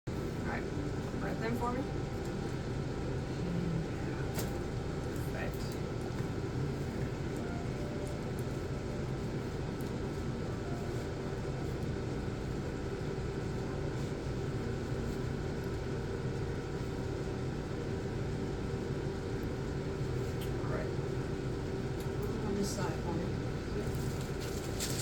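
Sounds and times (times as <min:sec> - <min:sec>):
low machinery rumble and hum: 0:00.1 - 0:25.0.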